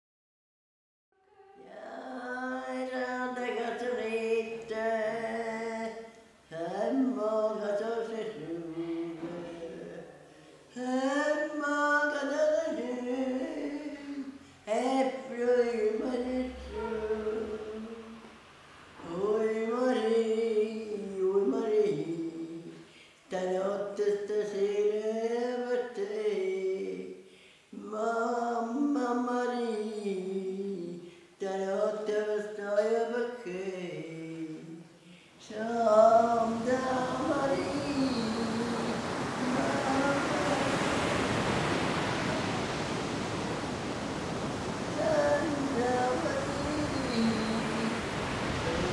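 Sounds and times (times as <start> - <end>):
elderly woman singing unaccompanied: 1.3 - 18.3, 19.0 - 27.1, 27.7 - 48.9.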